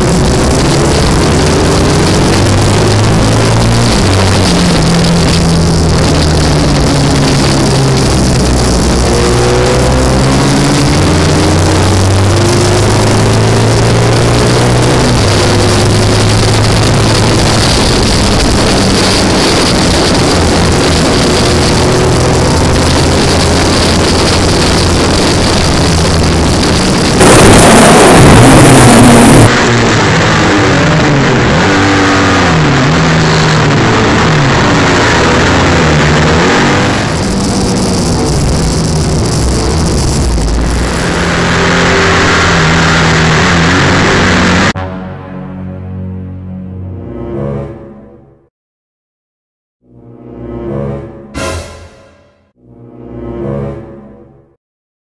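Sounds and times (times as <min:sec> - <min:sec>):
racing engine shifting gears: 0:00.0 - 0:44.8
wind rushing over microphone: 0:00.0 - 0:44.8.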